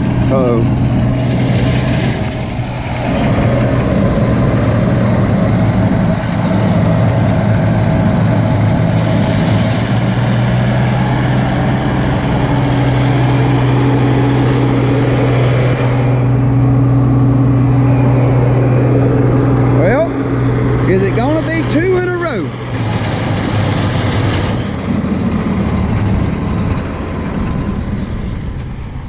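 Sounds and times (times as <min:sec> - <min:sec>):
baler machinery clattering: 0:00.0 - 0:29.0
tractor engine drone: 0:00.0 - 0:29.0.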